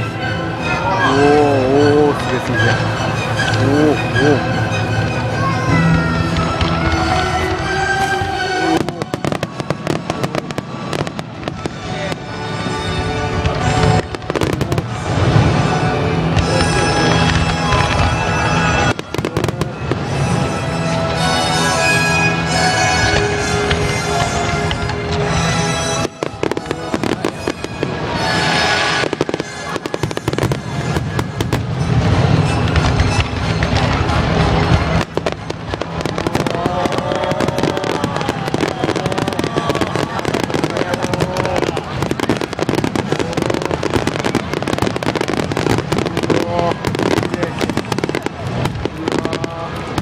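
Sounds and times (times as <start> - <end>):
show music: 0.0 - 50.0
fireworks crackling pops: 1.6 - 50.0.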